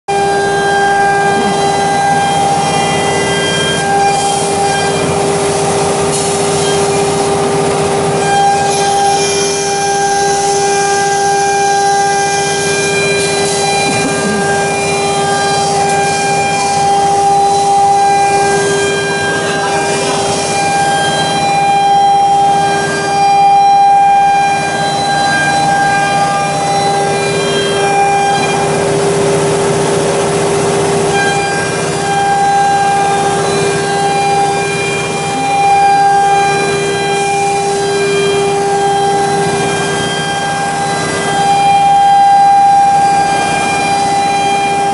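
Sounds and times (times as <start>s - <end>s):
higher machine tone: 0.1s - 44.9s
router machine whine: 0.1s - 44.9s.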